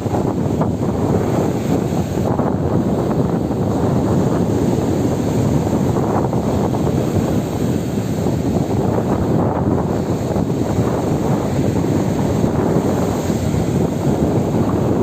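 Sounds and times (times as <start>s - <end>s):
ocean surf rushing: 0.0s - 15.0s
wind buffeting microphone: 0.0s - 15.0s.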